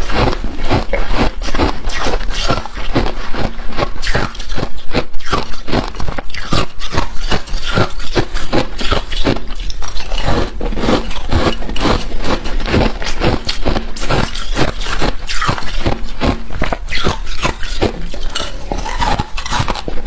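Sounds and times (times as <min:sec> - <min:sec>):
freezer frost crunching: 0:00.0 - 0:20.0.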